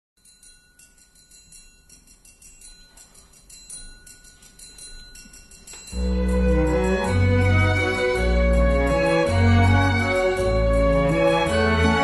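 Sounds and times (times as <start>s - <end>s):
tinkling bell-like shimmer: 0.2s - 12.0s.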